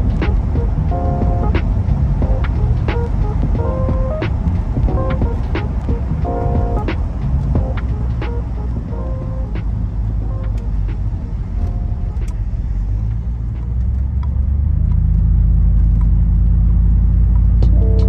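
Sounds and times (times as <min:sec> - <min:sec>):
road noise: 0:00.0 - 0:18.0
van engine rumble: 0:00.0 - 0:18.0.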